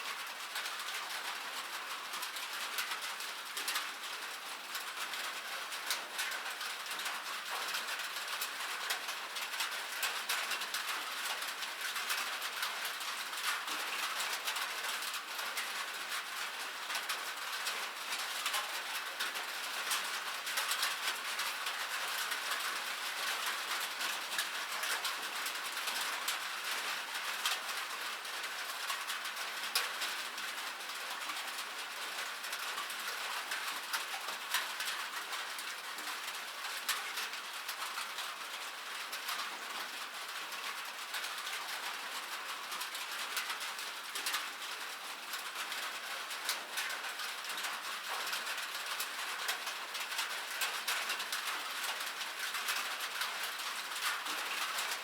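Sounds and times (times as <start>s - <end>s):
rain on metal surface: 0.0s - 55.0s.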